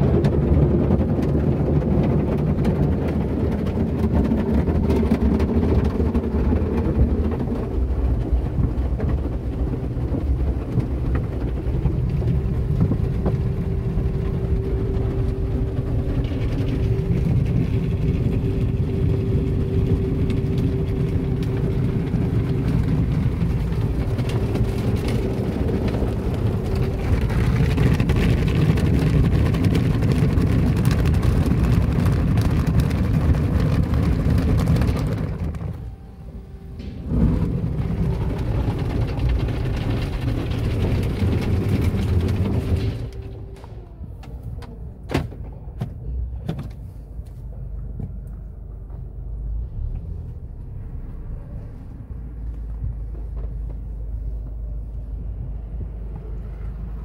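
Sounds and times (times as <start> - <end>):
car wash machinery rumble: 0.0 - 57.0
hum: 0.0 - 57.0.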